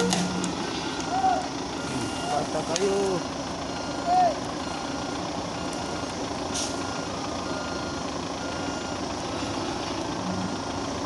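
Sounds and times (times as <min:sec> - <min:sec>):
diesel truck engine running: 0:00.0 - 0:11.0
reversing beeper: 0:00.0 - 0:11.0.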